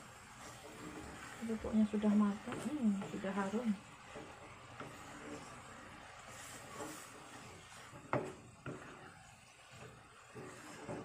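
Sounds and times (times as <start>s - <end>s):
spatula scraping in a pan: 0.0s - 11.0s.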